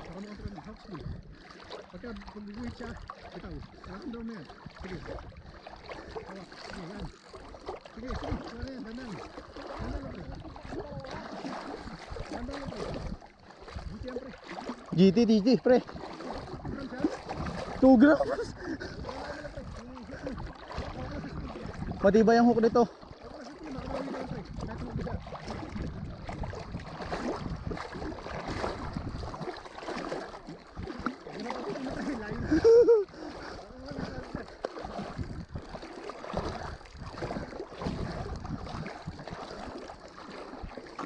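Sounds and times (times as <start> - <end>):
seawater sloshing and lapping: 0.0 - 41.0
wind buffeting microphone: 2.0 - 7.2, 8.0 - 14.3, 15.9 - 39.8.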